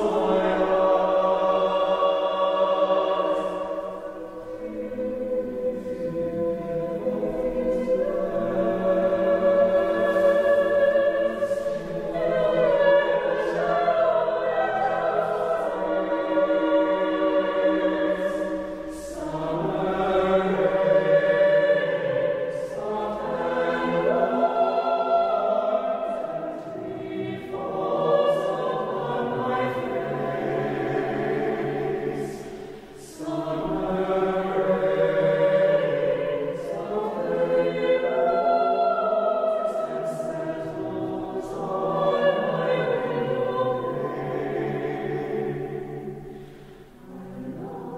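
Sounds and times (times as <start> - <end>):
choir singing sustained chords: 0.0 - 47.9.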